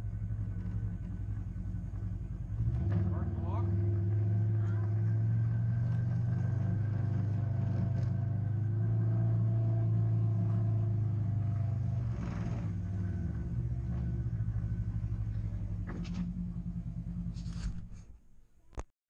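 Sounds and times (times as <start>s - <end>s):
engine running at low speed: 0.0s - 18.6s.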